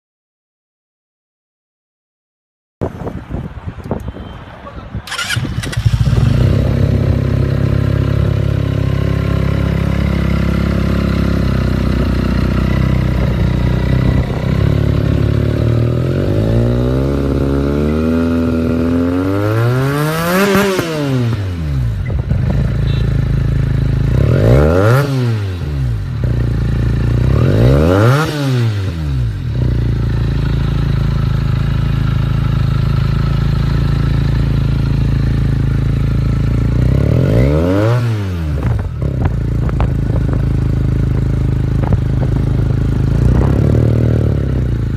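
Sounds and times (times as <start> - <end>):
motorcycle engine idling and revving: 5.0 - 44.9.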